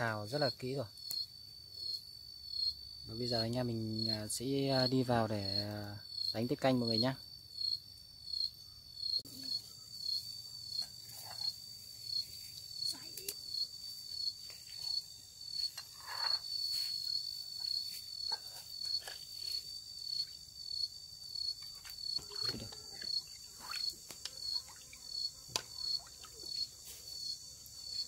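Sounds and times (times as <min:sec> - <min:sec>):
insect trilling: 0:00.0 - 0:28.0.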